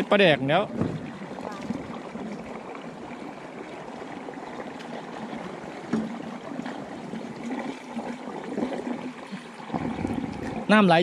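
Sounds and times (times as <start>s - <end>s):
water flowing steadily: 0.0s - 11.0s.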